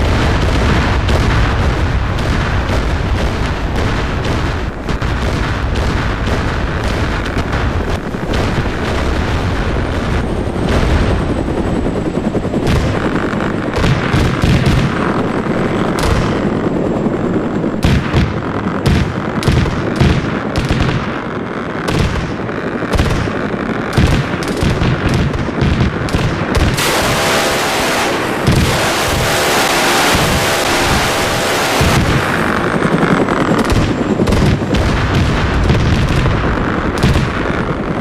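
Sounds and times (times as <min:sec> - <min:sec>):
gunfire shots and bangs: 0:00.0 - 0:11.6, 0:12.6 - 0:16.5, 0:17.7 - 0:38.0
heavy helicopter rumble: 0:00.0 - 0:38.0.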